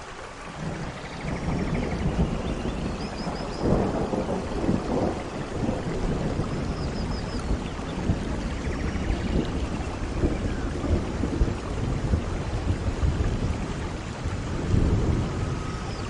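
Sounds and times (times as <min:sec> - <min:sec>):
rushing noise with low rumble: 0:00.0 - 0:16.0.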